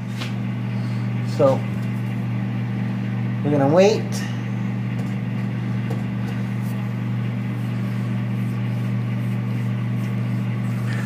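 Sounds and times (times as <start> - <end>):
fan blowing: 0.0 - 11.0
microwave oven humming: 0.0 - 11.0.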